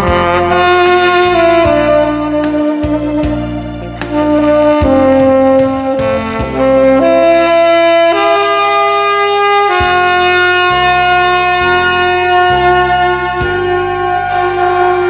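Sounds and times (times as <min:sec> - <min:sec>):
backing track with bass: 0:00.0 - 0:15.0
saxophone slow melody: 0:00.0 - 0:15.0.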